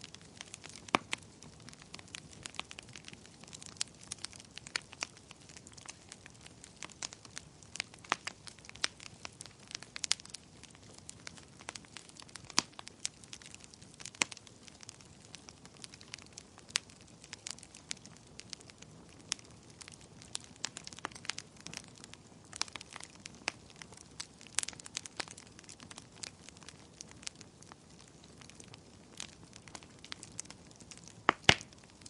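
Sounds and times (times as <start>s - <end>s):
fire crackling and popping: 0.0s - 32.0s.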